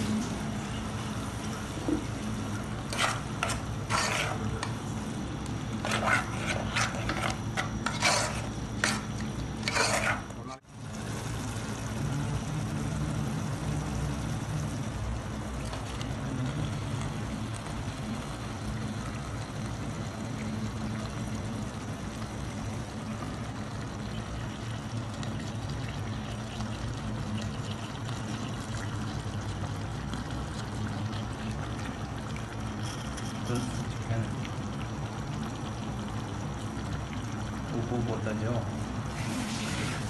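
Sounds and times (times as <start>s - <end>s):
curry bubbling in a pot: 0.0s - 40.0s.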